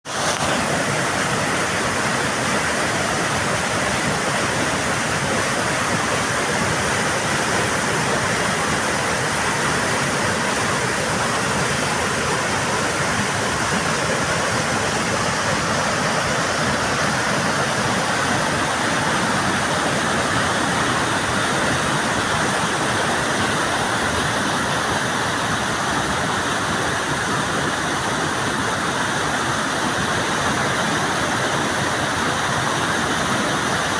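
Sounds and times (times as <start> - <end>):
creek rushing over rocks: 0.0 - 33.9.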